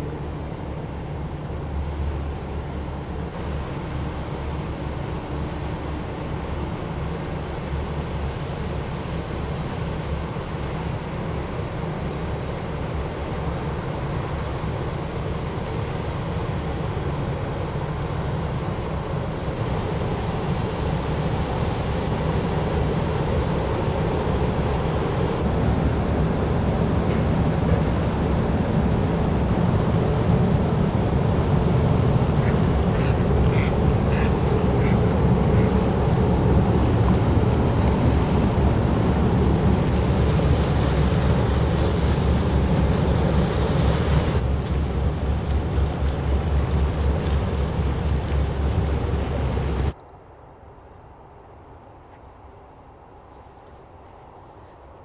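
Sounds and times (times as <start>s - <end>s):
ship engine rumble: 0.0s - 50.0s
water rushing along hull: 0.0s - 50.0s.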